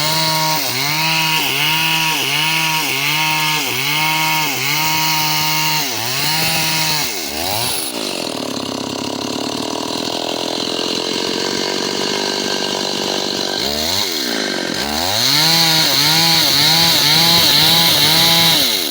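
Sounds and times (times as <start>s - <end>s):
chainsaw cutting timber: 0.0s - 18.9s.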